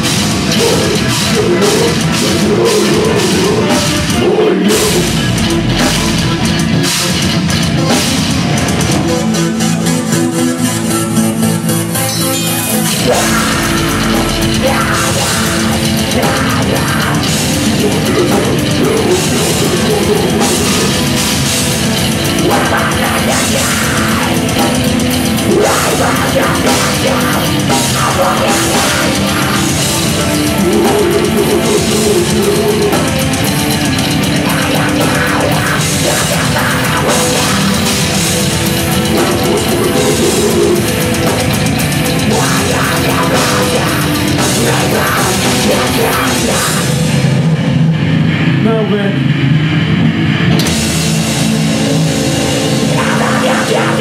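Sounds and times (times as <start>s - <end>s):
pounding drum kit: 0.0s - 11.1s, 12.6s - 54.0s
distorted guitar: 0.0s - 54.0s
heavy rock band playing: 0.0s - 54.0s.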